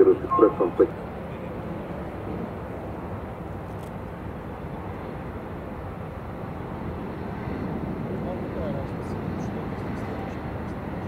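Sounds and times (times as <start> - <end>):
distant jet engine rumble: 0.0 - 11.0.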